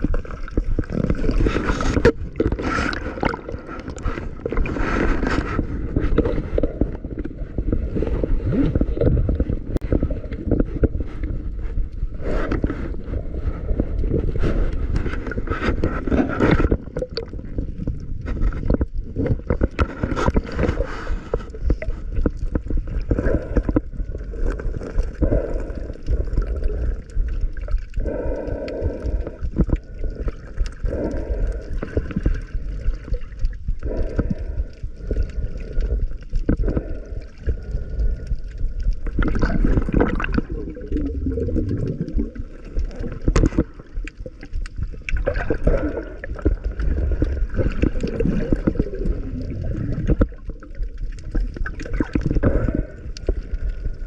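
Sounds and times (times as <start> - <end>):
underwater gurgling and sloshing: 0.0 - 54.0.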